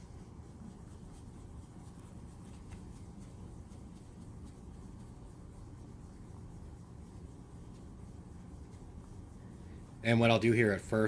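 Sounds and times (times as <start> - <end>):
cloth rubbing on plastic: 0.0 - 11.0
low room hum: 0.0 - 11.0.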